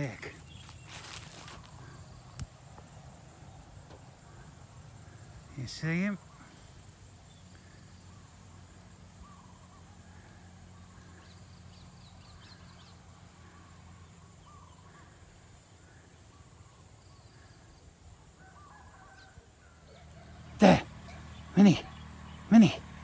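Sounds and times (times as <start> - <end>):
distant bird calls: 0.0 - 23.0.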